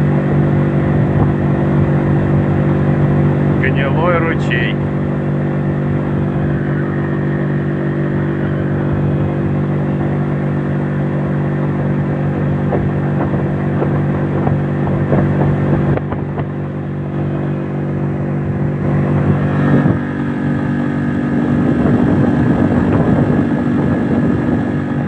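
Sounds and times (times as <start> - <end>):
boat motor running: 0.0 - 25.0.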